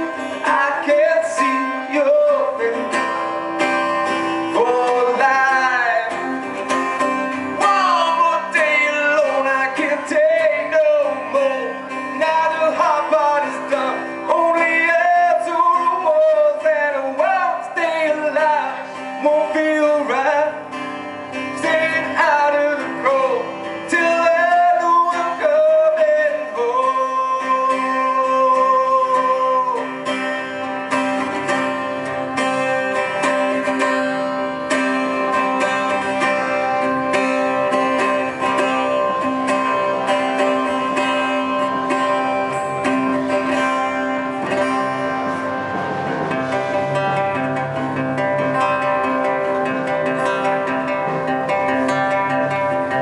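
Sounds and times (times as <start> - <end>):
man singing: 0.0 - 45.0
strummed acoustic guitar: 0.0 - 53.0.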